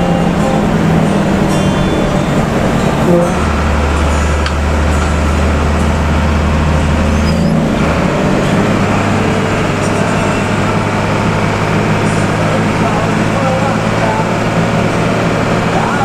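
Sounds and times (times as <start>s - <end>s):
bus engine humming: 0.0s - 16.0s
road noise: 0.0s - 16.0s.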